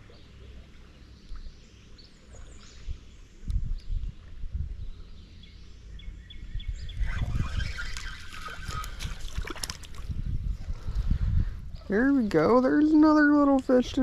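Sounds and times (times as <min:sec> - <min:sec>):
wind rumble: 0:02.6 - 0:14.0.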